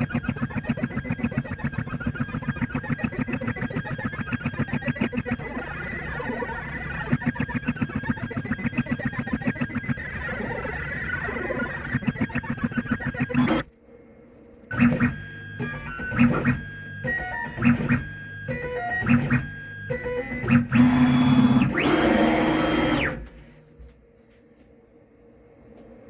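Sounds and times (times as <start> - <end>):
stepper motors whining: 0.0 - 13.7, 14.7 - 23.5.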